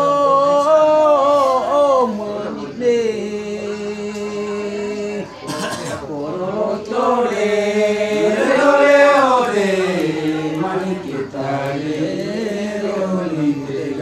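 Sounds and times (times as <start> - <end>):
men singing unaccompanied: 0.0 - 14.0.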